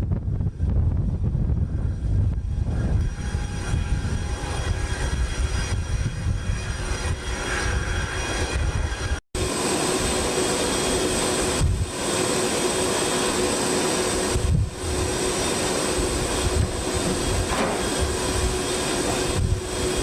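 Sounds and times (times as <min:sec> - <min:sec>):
jet engine low rumble: 0:00.0 - 0:20.0
jet engine hiss and whine: 0:00.1 - 0:20.0.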